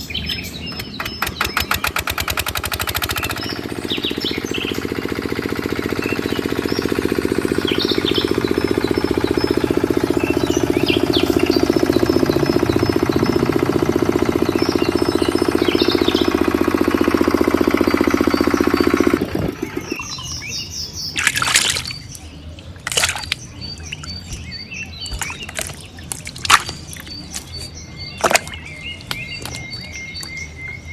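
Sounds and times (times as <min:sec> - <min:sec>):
birds chirping: 0:00.0 - 0:30.9
diesel engine running pump: 0:00.0 - 0:30.9.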